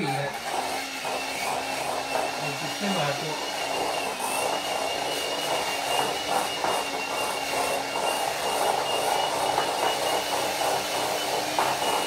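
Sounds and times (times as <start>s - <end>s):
electric mixer whisking: 0.0s - 12.0s.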